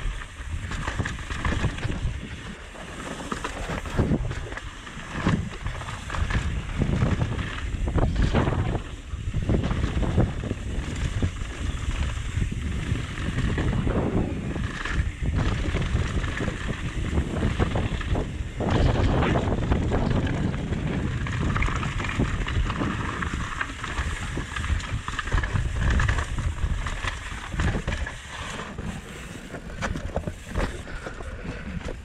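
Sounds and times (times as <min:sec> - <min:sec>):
bike rattling and knocking: 0:00.0 - 0:32.0
tyres rolling over gravel: 0:00.0 - 0:32.0
wind on microphone: 0:00.0 - 0:32.0.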